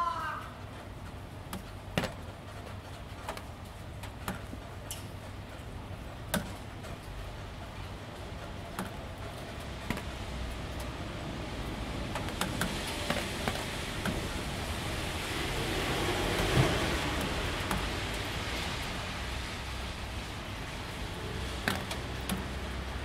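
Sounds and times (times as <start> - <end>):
light rain: 0.0 - 23.0
drips ticking on metal roof: 0.5 - 23.0.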